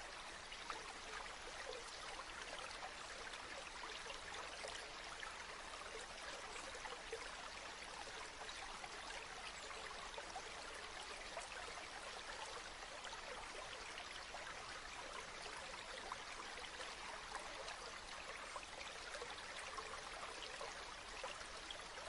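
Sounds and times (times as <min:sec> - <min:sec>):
river water babbling: 0:00.0 - 0:22.0.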